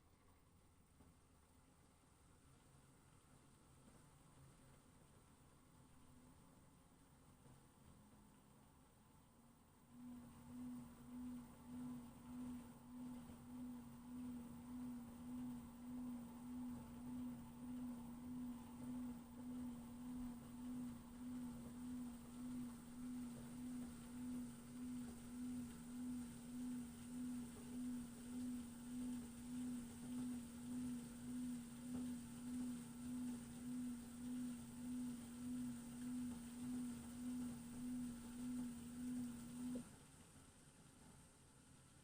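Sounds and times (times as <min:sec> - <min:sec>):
washer-dryer fan whining: 0:00.0 - 0:42.0.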